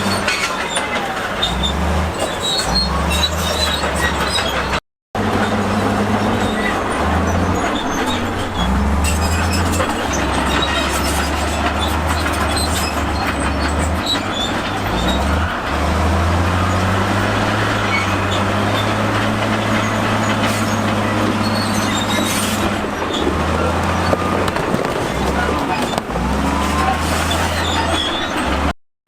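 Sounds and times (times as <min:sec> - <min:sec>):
diesel engine under load: 0:00.0 - 0:28.8
steel tracks clattering and squealing: 0:00.0 - 0:28.8.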